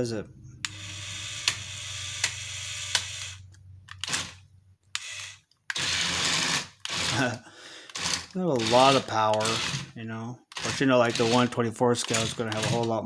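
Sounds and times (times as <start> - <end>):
small electric motors whirring: 0.6 - 3.4, 4.0 - 4.4, 5.0 - 12.9.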